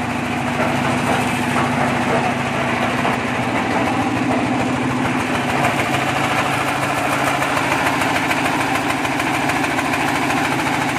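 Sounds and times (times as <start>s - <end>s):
concrete mixer diesel engine running: 0.0s - 10.9s.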